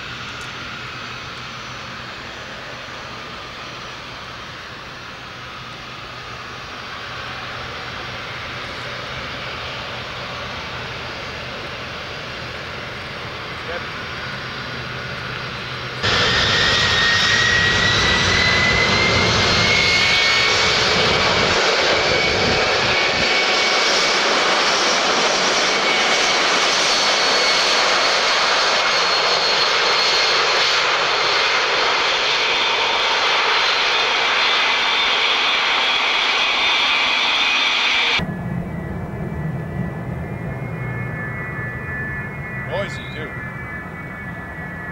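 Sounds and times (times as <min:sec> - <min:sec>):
jet engine roar with whine: 0:00.0 - 0:44.9.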